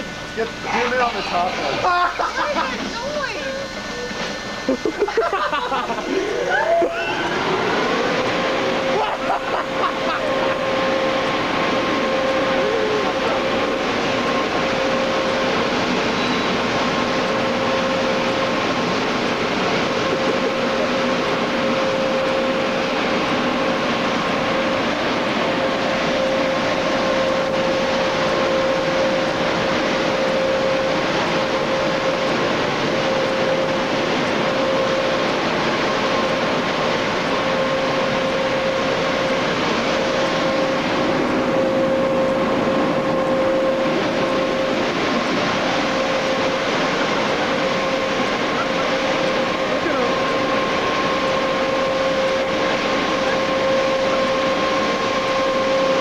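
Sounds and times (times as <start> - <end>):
car wash machinery rushing: 0.0 - 56.0
constant humming tone: 0.0 - 56.0.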